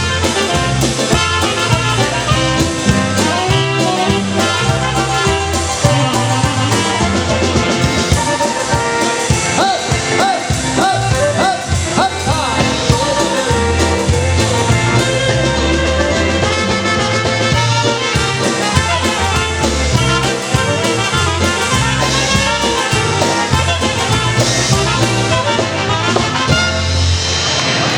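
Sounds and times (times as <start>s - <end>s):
polka band playing: 0.0s - 27.9s.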